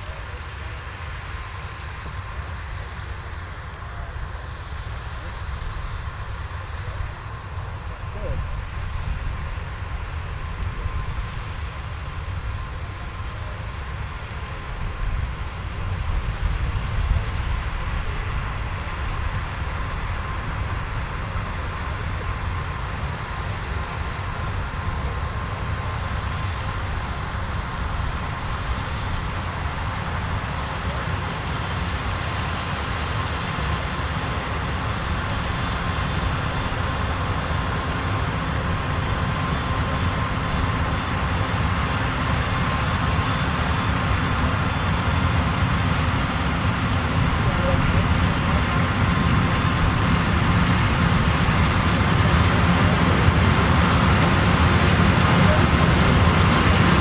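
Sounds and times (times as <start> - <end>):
combine harvester running: 0.0 - 57.0
thin machinery whine: 0.0 - 57.0.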